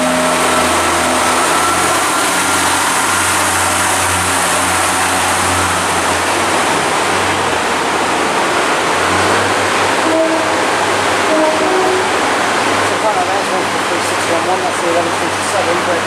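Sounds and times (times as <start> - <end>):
diesel train engine running: 0.0 - 16.0.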